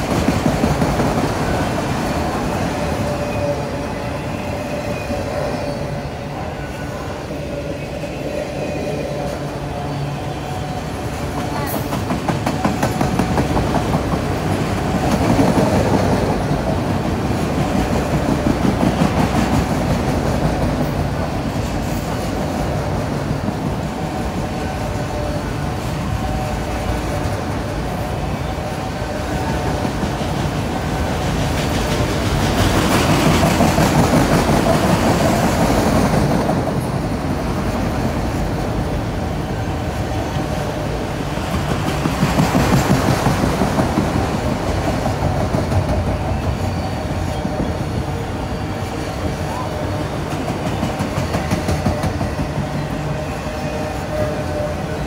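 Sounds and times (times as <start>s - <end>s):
train wheels rumbling clickety-clack: 0.0s - 55.0s.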